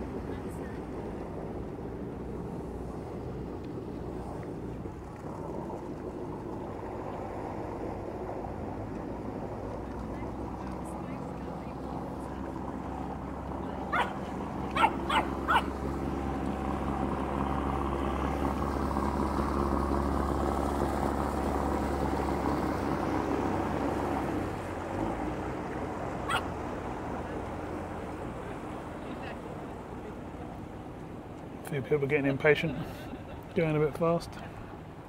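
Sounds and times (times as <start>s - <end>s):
motor boat engine passing: 0.0s - 35.0s.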